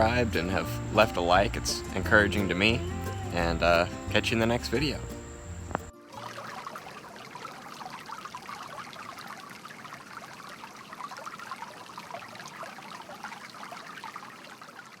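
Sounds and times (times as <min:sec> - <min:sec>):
water trickling and babbling: 0:00.0 - 0:15.0.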